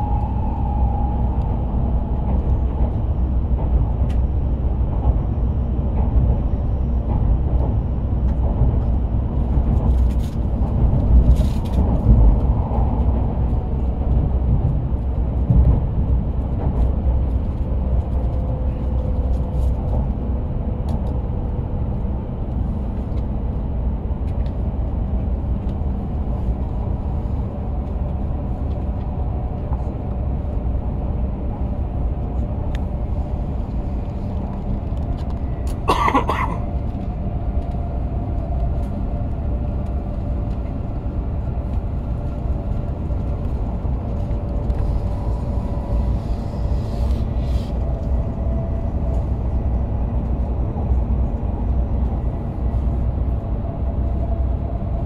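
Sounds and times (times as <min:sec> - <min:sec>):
train rumbling at speed: 0:00.0 - 0:55.0.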